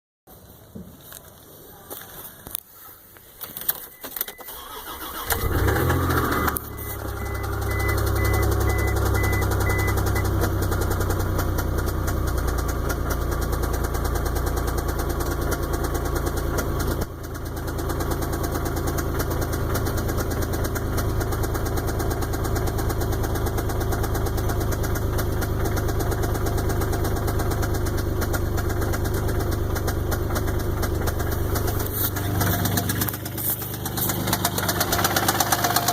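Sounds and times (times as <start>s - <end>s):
engine cranking and idling: 3.4s - 35.9s
engine knock: 5.4s - 35.9s.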